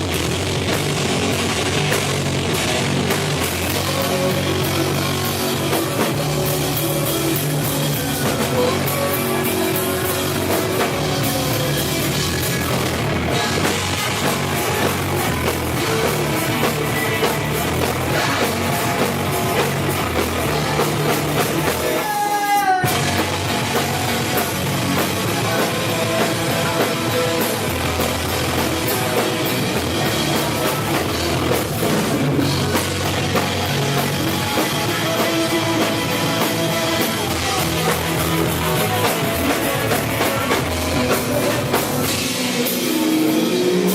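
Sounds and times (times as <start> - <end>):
drum kit: 0.0 - 43.9
rock band playing: 0.0 - 43.9.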